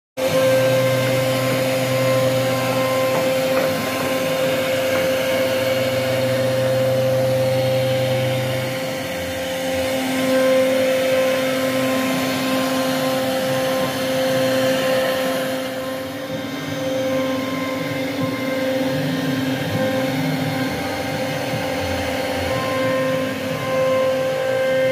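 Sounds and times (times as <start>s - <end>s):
router spindle whining: 0.2s - 24.9s.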